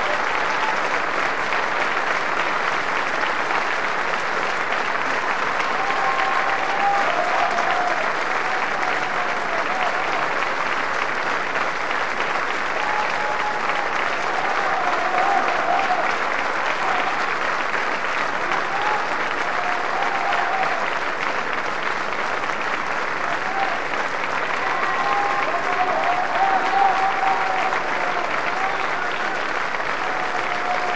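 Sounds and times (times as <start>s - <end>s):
audience applauding: 0.0s - 30.9s.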